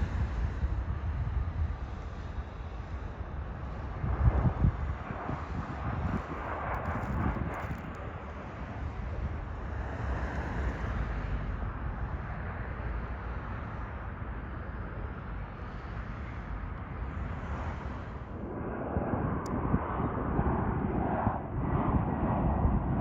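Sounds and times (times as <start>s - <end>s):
wind buffeting microphone: 0.0s - 12.6s, 15.0s - 23.0s
jet engines rumbling: 0.0s - 23.0s.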